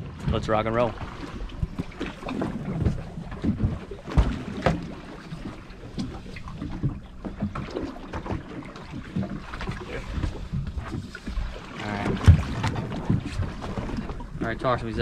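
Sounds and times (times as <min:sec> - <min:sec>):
water slapping boat hull: 0:00.0 - 0:15.0.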